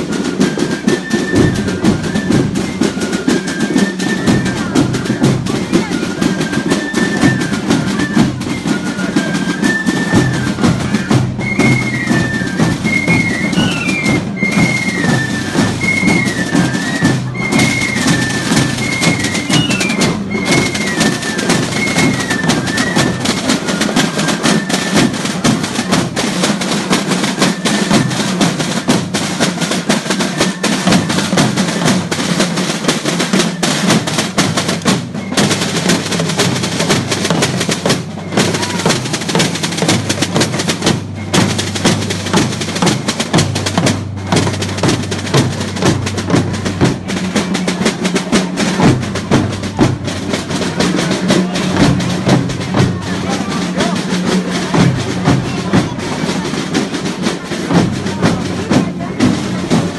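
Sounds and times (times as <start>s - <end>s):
fife melody: 0.0s - 59.9s
snare drumming: 0.0s - 59.9s.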